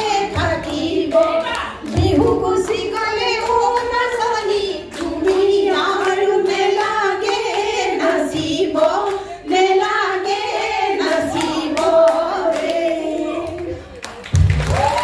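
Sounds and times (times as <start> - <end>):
women singing folk song: 0.0 - 13.6
rhythmic hand-clapping: 0.0 - 15.0.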